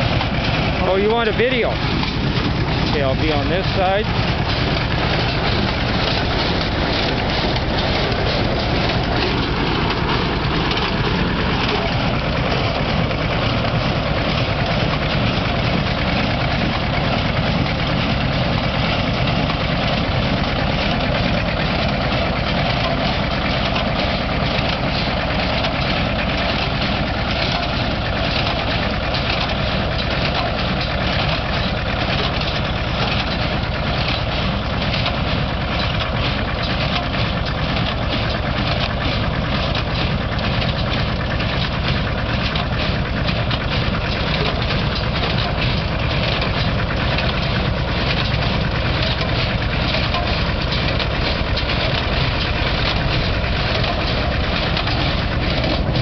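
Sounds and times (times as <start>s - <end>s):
baler mechanism clattering: 0.0s - 56.0s
tractor engine running: 0.0s - 56.0s.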